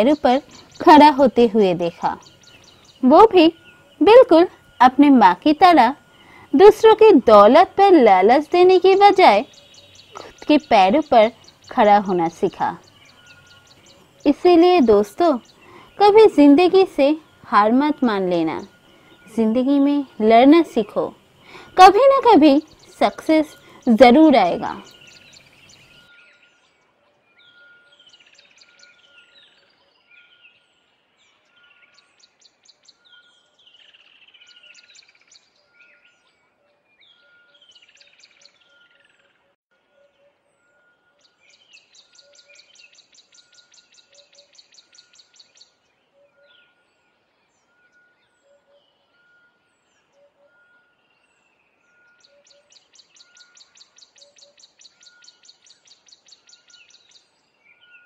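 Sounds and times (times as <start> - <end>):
birds chirping and trilling: 0.0 - 58.0
rapid buzzy bird trills: 0.0 - 58.0.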